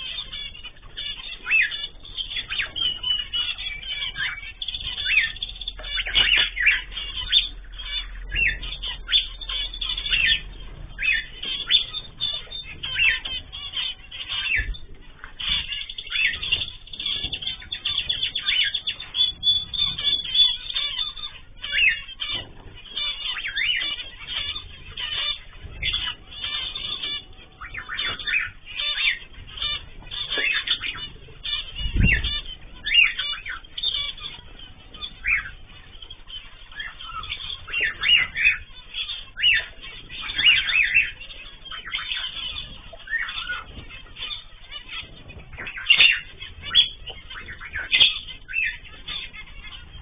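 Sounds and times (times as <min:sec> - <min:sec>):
cage birds chirping: 0:00.0 - 0:50.0.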